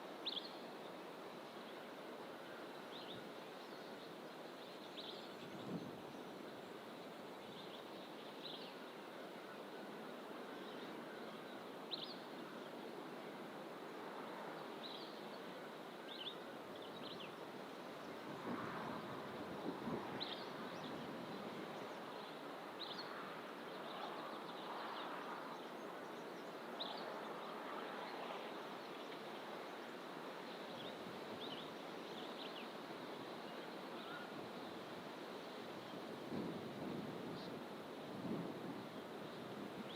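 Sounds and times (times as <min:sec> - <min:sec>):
distant ocean surf: 0:00.0 - 0:39.9
wind: 0:00.0 - 0:39.9.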